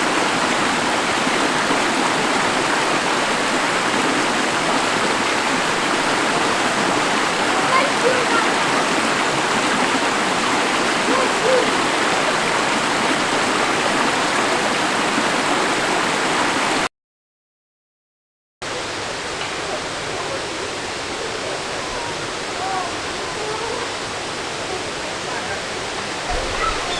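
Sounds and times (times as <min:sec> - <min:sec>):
waterfall rushing: 0:00.0 - 0:16.9, 0:18.7 - 0:26.9.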